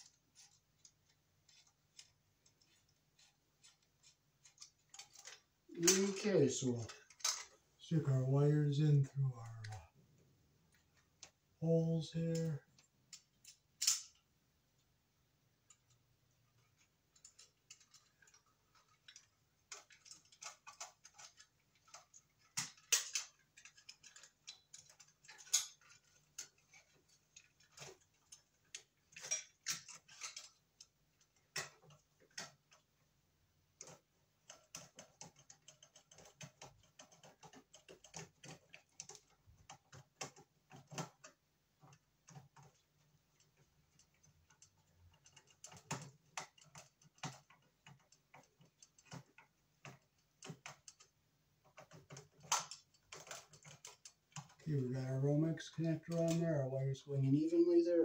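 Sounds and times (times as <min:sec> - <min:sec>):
clicks taps and scrapes: 0:00.0 - 0:14.9, 0:15.6 - 0:56.7.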